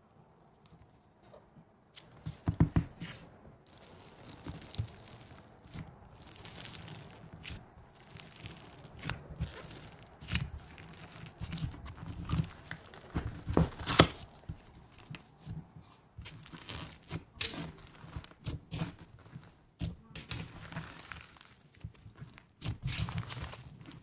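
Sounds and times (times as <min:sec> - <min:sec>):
sticky slime crackling and snapping: 0:03.7 - 0:24.0.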